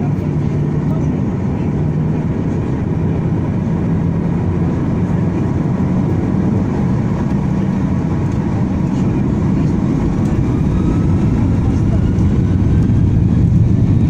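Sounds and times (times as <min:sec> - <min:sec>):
jet engines heard inside cabin: 0:00.0 - 0:14.0.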